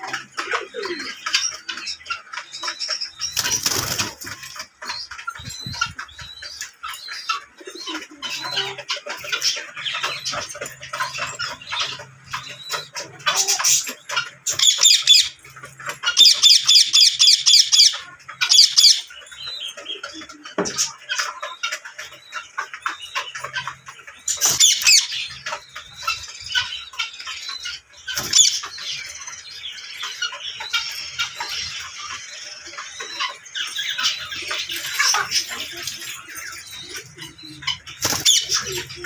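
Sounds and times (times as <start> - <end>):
parakeets chattering and chirping: 0.0 - 39.0.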